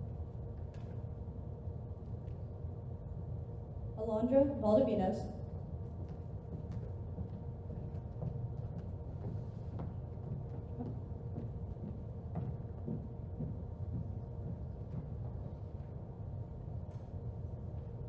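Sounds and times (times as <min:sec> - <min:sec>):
faint constant hum: 0:00.0 - 0:18.0.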